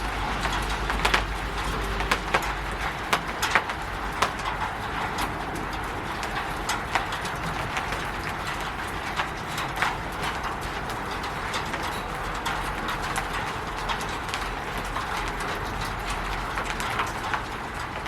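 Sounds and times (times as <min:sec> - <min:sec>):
rain pattering on a roof: 0:00.0 - 0:18.0.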